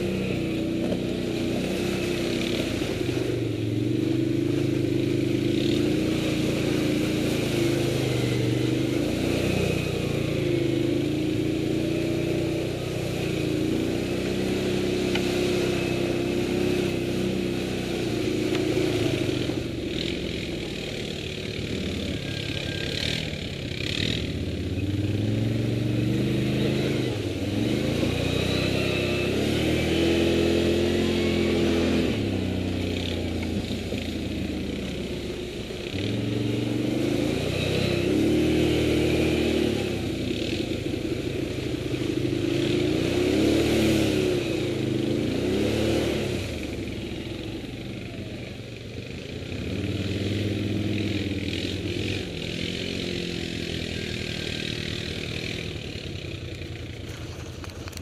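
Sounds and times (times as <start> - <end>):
quad engine revving under load: 0.0 - 58.0.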